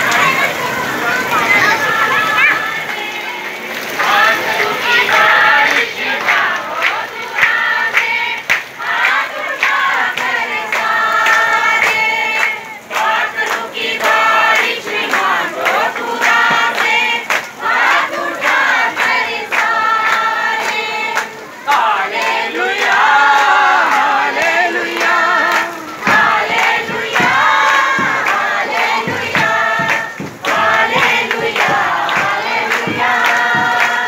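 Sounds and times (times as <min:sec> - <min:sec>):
congregation singing: 0:00.0 - 0:34.0.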